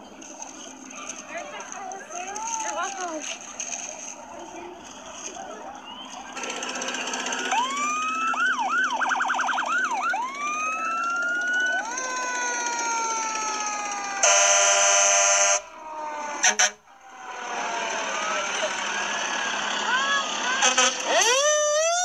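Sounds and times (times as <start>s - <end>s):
fire engine siren wailing: 0.0s - 22.0s.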